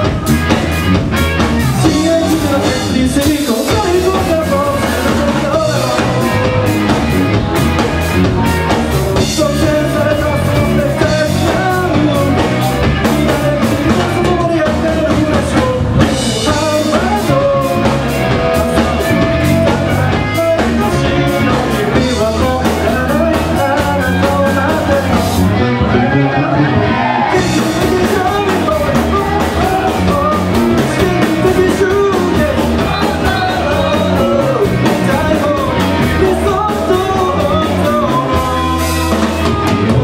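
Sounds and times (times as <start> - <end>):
bass guitar: 0.0 - 40.0
drum kit: 0.0 - 40.0
electric guitars: 0.0 - 40.0
person singing: 1.3 - 40.0.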